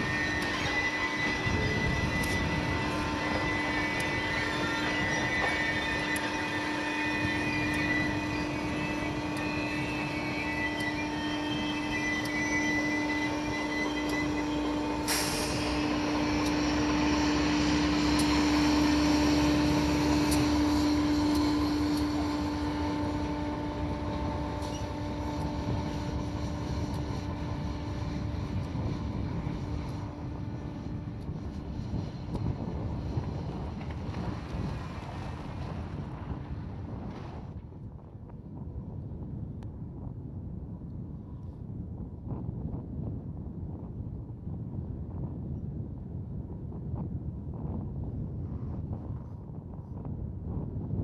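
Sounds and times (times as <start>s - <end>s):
diesel locomotive droning: 0.0s - 51.0s.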